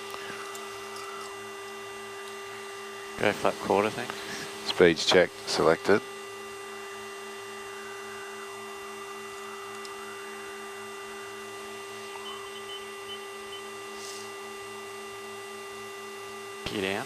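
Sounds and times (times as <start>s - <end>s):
electrical hum: 0.0s - 17.0s
turboprop engine drone: 0.0s - 17.0s.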